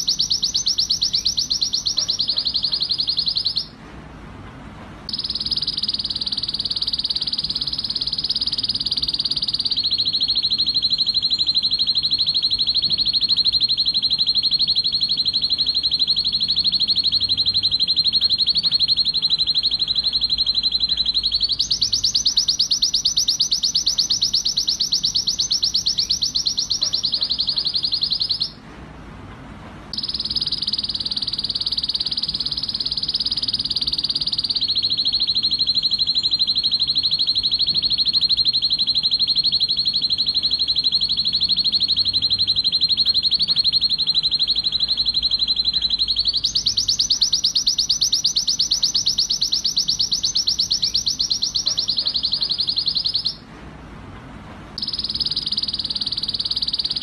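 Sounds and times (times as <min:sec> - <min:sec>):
canary singing fast trills: 0:00.0 - 0:03.8, 0:05.1 - 0:28.6, 0:30.0 - 0:53.5, 0:54.8 - 0:57.0.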